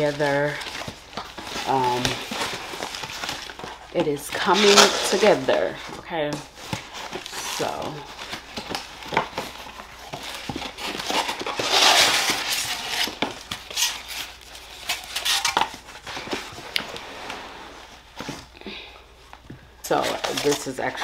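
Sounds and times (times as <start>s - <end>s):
cardboard rustling and scraping: 0.0s - 18.6s, 19.5s - 21.0s.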